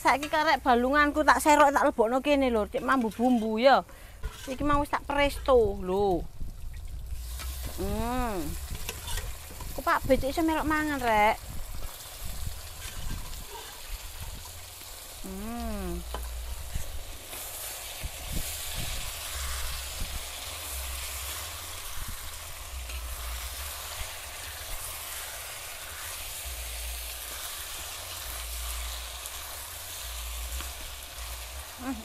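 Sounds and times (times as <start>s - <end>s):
food sizzling in a wok: 0.0s - 32.0s.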